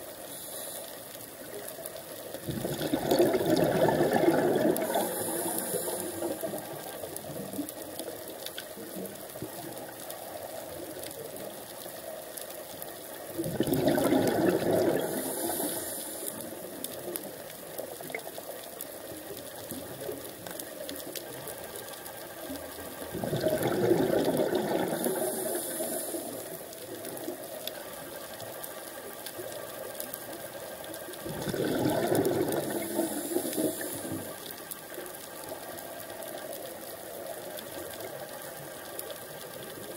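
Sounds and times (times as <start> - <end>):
underwater exhaled bubbles: 0.0 - 12.0, 12.9 - 39.9
faint hiss with crackling: 0.0 - 39.9.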